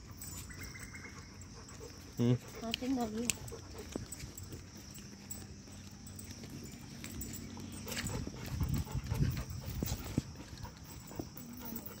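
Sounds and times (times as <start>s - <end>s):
metal chain leash clinking: 0.0s - 12.0s
footsteps on paved road: 0.1s - 12.0s.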